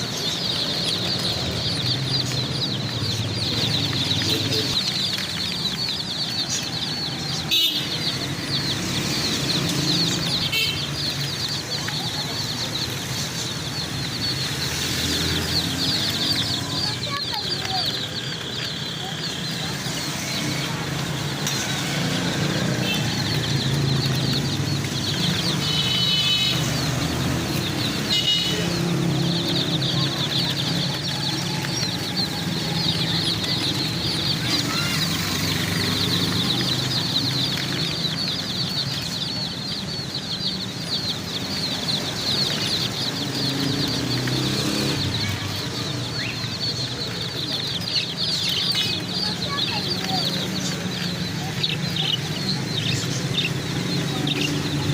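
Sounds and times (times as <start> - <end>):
baby chicks peeping: 0.0 - 54.9.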